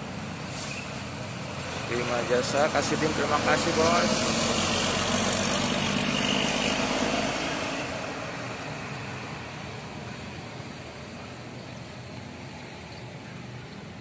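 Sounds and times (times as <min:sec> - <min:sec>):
bus diesel engine passing: 0:00.0 - 0:14.0.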